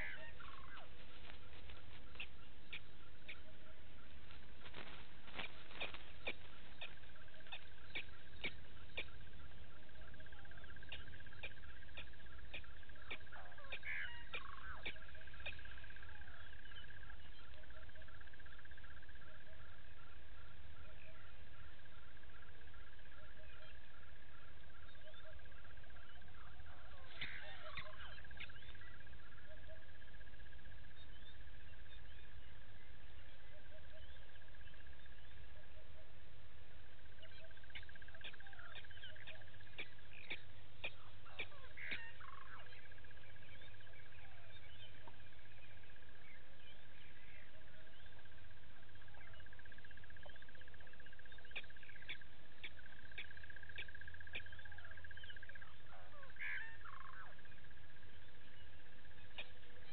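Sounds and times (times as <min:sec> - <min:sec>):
birds calling: 0:00.0 - 0:59.9.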